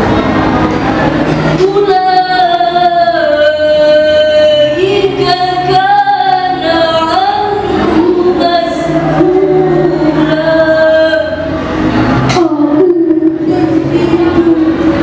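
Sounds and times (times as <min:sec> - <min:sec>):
girl reciting melodically: 0:01.5 - 0:11.6, 0:12.2 - 0:15.0.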